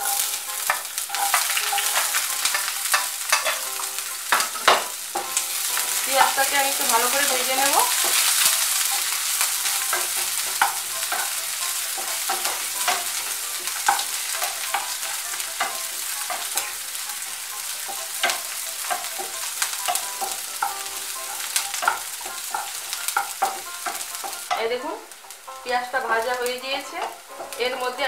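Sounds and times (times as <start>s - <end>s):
spatula scraping and tapping pan: 0.0s - 25.4s, 26.0s - 28.0s
onion sizzling in oil: 0.0s - 28.0s.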